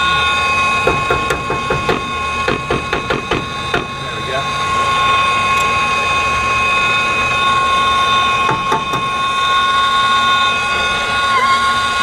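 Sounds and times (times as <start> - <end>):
high-pitched mechanical whine: 0.0 - 12.0.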